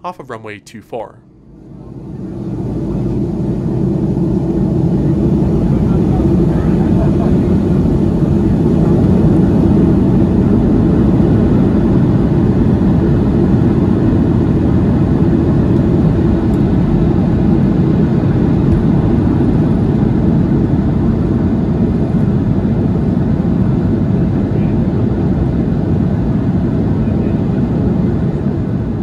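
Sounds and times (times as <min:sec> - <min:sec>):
jet engines roaring on takeoff: 0:01.5 - 0:29.0.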